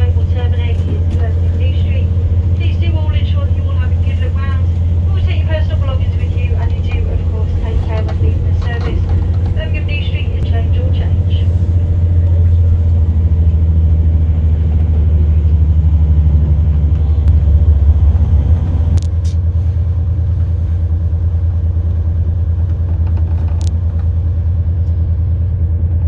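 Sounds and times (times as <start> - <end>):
passenger train rumble: 0.0 - 26.0.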